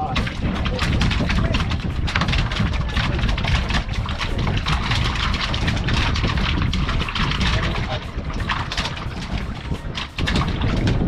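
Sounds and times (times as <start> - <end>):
low boat rumble: 0.0 - 11.0
wind buffeting microphone: 0.0 - 11.0.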